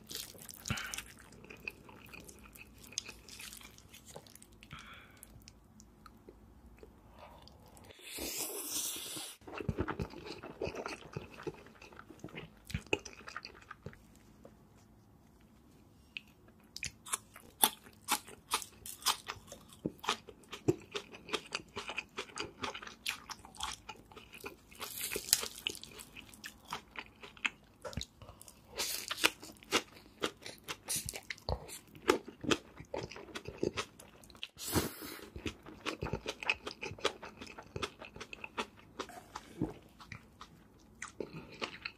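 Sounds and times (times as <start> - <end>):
chewing and crunching: 0.0 - 7.0, 9.4 - 14.9, 16.1 - 34.6, 35.2 - 41.9.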